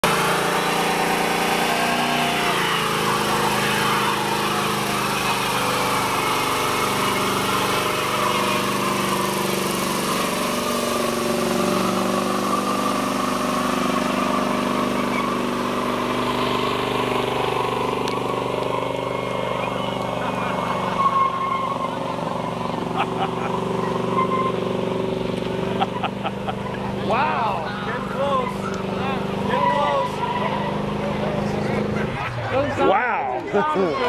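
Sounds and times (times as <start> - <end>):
car engine at high revs: 0.0 - 33.5
tyres spinning on pavement: 0.0 - 34.0.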